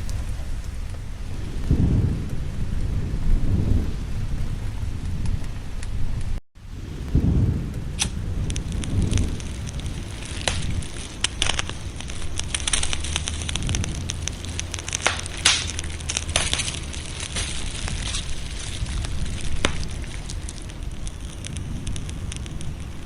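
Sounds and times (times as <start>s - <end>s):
low rumble: 0.0s - 23.0s
wood fire crackling and popping: 0.0s - 23.0s.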